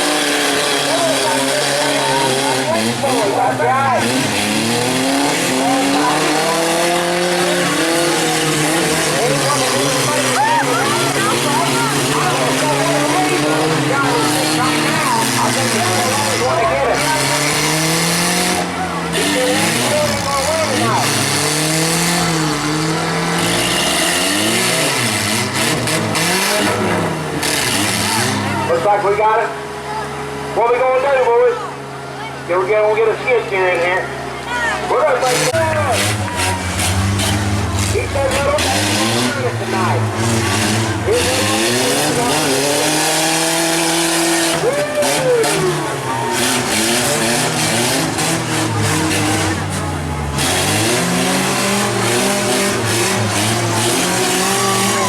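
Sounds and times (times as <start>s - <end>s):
crowd noise: 0.0s - 55.0s
truck engines revving: 0.0s - 55.0s.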